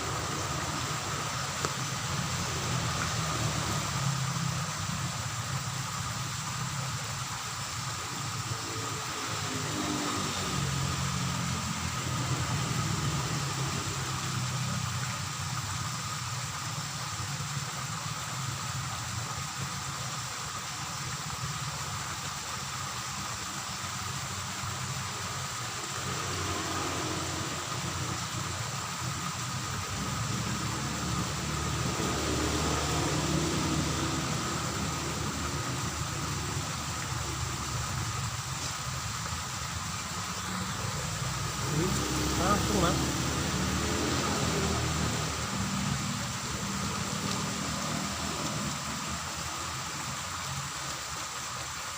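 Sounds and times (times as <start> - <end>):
steady hiss: 0.0 - 51.9
vehicle engine rumble: 0.0 - 51.9.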